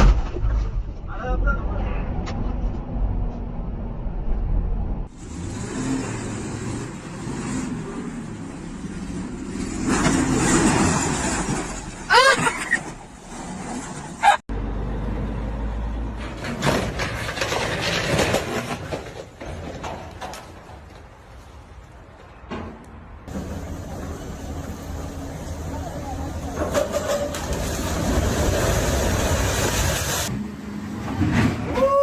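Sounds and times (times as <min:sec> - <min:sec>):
road traffic noise: 0:01.6 - 0:32.0.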